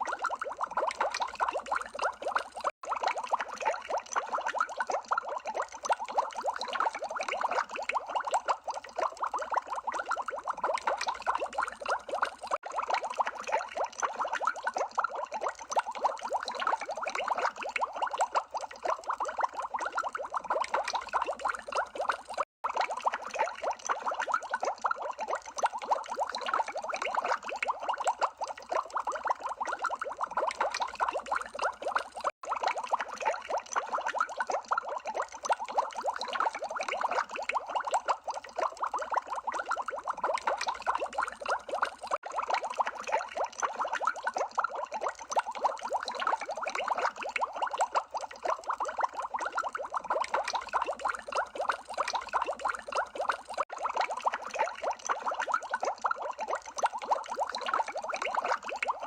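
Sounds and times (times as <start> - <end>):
underwater bubbles blipping: 0.0 - 59.0.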